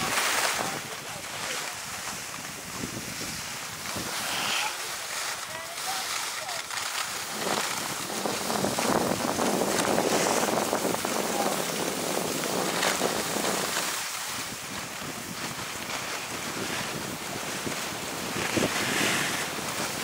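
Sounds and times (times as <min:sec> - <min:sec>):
wind on microphone: 0:00.0 - 0:06.0, 0:07.0 - 0:20.0
skis scraping over snow: 0:00.0 - 0:20.0.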